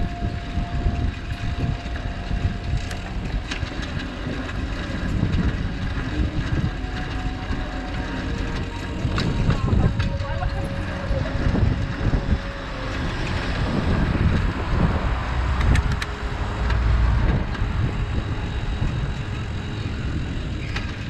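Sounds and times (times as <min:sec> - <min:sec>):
bike road rumble: 0:00.0 - 0:21.0
car traffic: 0:00.0 - 0:21.0
wind rushing over microphone: 0:00.0 - 0:21.0.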